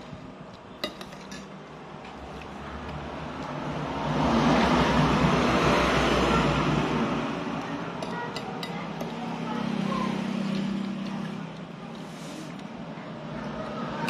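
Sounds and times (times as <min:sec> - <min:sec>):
road vehicle passing: 0:01.4 - 0:14.0.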